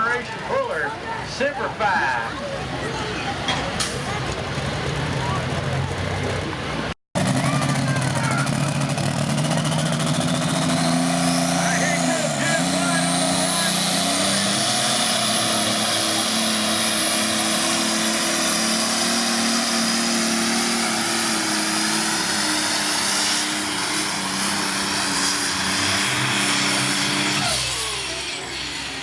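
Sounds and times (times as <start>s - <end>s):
diesel engine revving under load: 3.6s - 29.0s.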